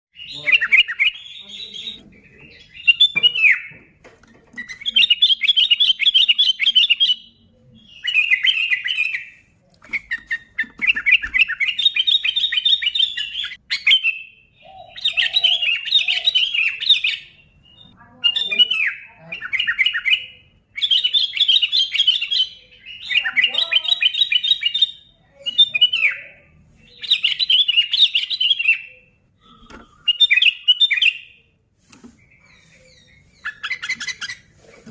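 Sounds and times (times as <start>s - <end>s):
bird singing rapid chattering phrases: 0.1s - 34.9s.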